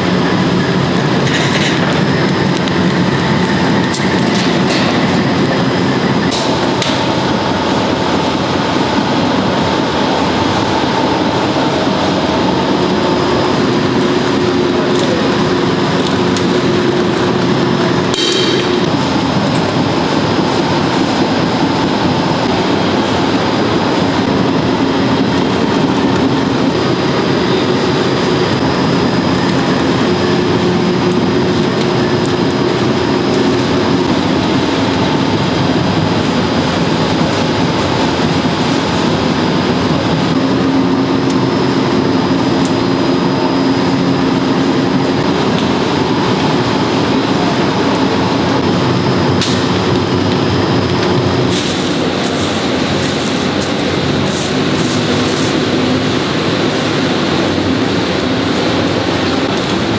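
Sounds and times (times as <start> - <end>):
rubber mill mechanical drone: 0.0 - 59.9.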